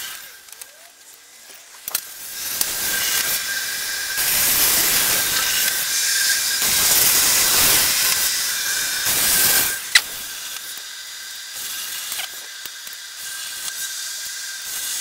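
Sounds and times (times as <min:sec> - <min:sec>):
plasma cutter arc hissing: 0:00.0 - 0:15.0.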